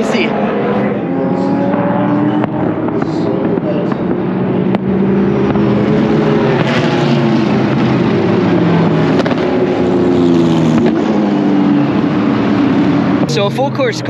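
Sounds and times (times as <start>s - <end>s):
race car engines passing: 0.0s - 14.0s.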